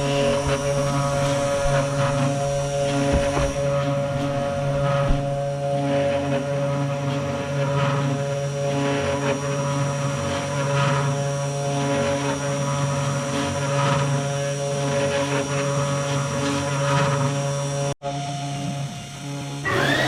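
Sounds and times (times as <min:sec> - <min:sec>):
cnc router carving wood: 0:00.0 - 0:20.0.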